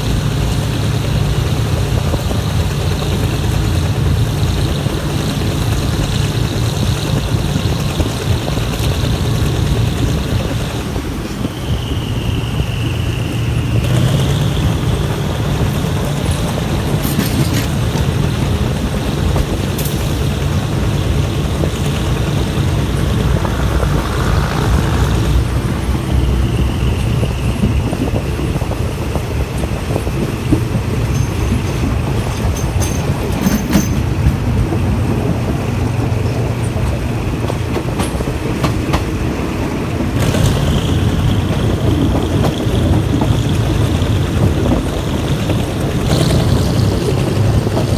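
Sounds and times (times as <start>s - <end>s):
clicks of train wheels: 0.0s - 47.9s
train wheels rumbling on track: 0.0s - 47.9s.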